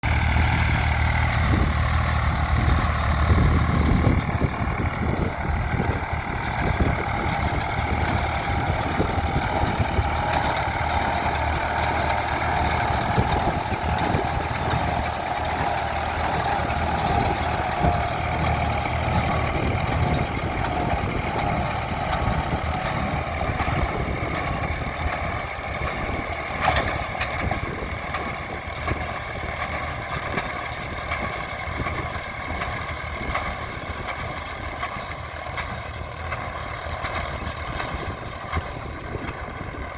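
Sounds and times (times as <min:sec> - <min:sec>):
baler working: 0:00.0 - 0:39.9
tractor engine running: 0:00.0 - 0:39.9.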